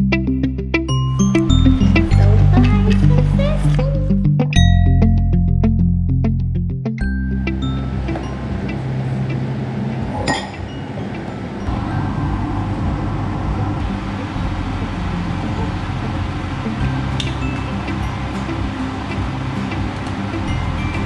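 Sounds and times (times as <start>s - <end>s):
quiet background music: 0.9s - 21.0s.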